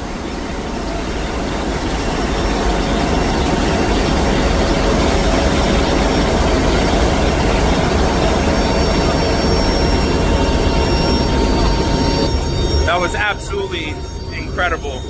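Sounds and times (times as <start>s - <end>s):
plane engines droning: 0.0s - 15.0s.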